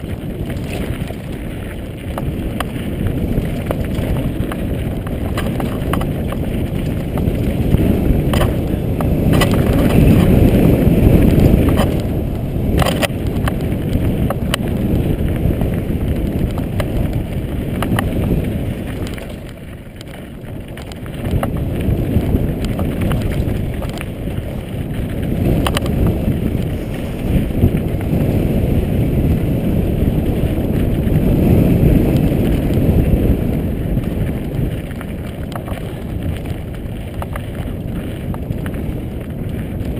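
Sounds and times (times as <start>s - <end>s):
bike rattling over stones: 0.0s - 39.9s
bike tyres rumbling on dirt: 0.0s - 39.9s
wind on microphone: 0.0s - 39.9s.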